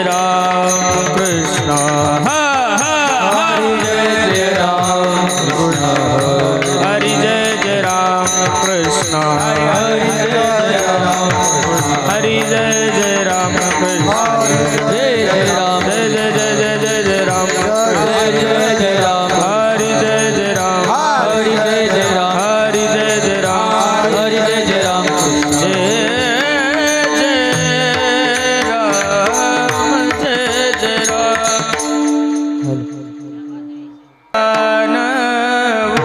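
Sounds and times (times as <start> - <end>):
hand drum: 0.0 - 33.9
person singing devotional song: 0.0 - 36.0.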